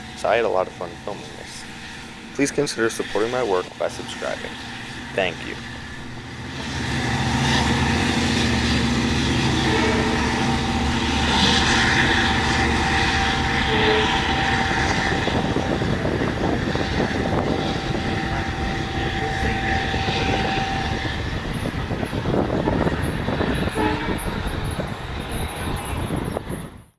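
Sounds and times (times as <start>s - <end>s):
diesel train engine drone: 0.0s - 26.9s
steady high whine: 0.0s - 26.9s.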